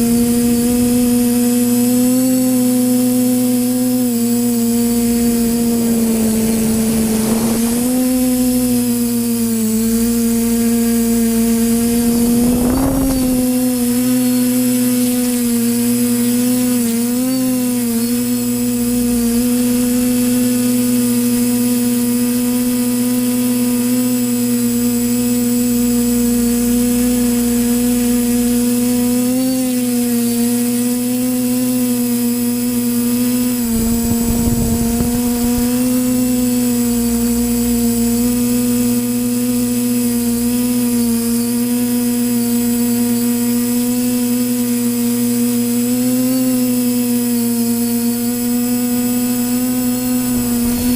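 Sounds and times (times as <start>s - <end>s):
quadcopter motors whining: 0.0s - 50.9s.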